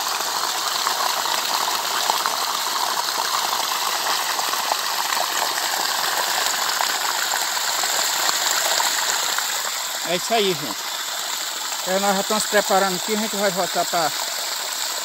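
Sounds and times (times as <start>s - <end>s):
water gushing from pipe: 0.0s - 15.0s.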